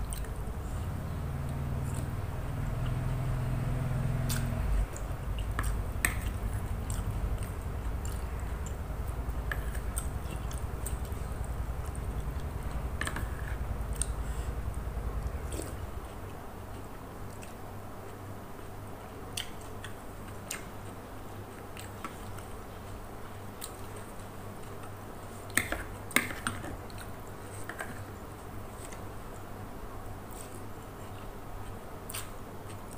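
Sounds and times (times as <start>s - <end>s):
person chewing and eating: 0.0s - 28.1s, 30.3s - 32.9s
low steady hum: 0.0s - 32.9s.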